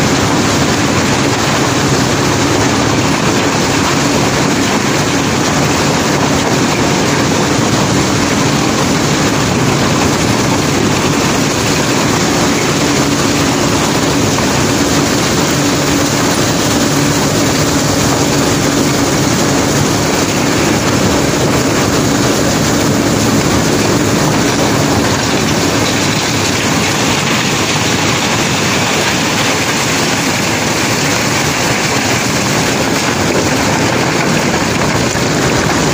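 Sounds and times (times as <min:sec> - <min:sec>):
low machine drone: 0:00.0 - 0:35.9.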